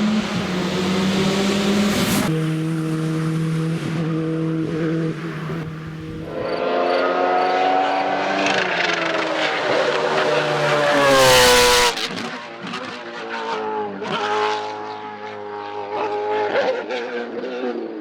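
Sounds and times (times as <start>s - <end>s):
race car engine passing by: 0.0s - 18.0s.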